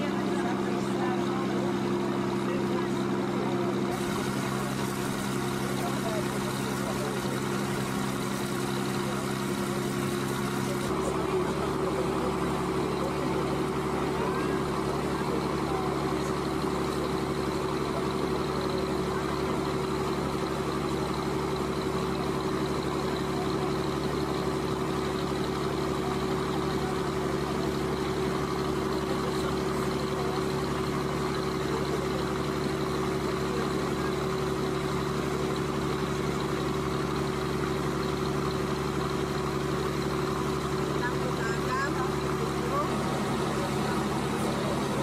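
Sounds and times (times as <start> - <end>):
boat engine humming: 0.0 - 45.0.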